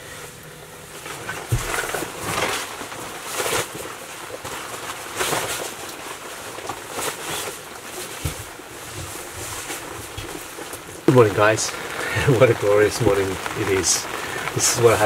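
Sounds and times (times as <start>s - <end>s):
rain and wind hiss: 0.0s - 15.0s.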